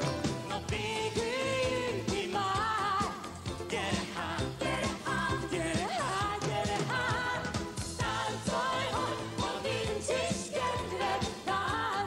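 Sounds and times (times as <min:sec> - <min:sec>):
live pop band with drums: 0:00.0 - 0:12.0
person singing: 0:00.0 - 0:12.0.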